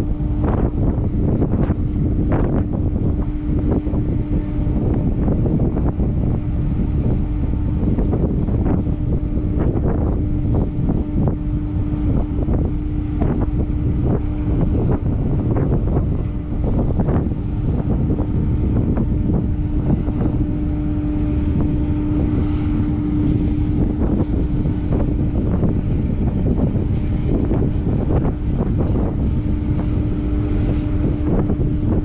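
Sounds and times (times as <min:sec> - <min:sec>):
ship engines humming: 0:00.0 - 0:32.0
wind buffeting microphone: 0:00.0 - 0:32.0.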